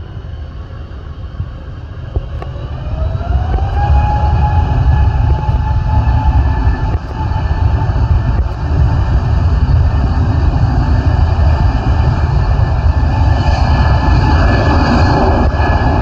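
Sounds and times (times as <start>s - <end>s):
jet engines spooling up: 0.0s - 16.0s.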